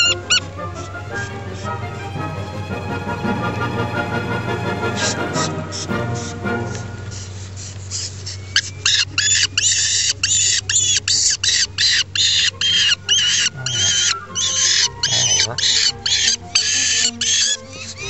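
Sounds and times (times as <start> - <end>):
falcon chick calling: 0.0 - 2.0, 5.0 - 18.0.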